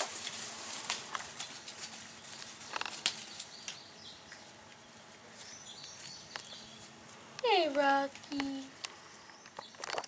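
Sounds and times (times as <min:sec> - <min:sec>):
raccoon tapping and rustling: 0:00.0 - 0:10.0.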